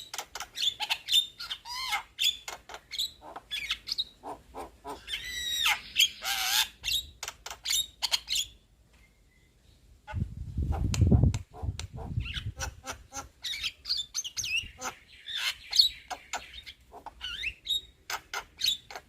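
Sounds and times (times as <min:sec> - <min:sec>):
bird whistles and squawks: 0:00.0 - 0:09.5, 0:11.5 - 0:19.0.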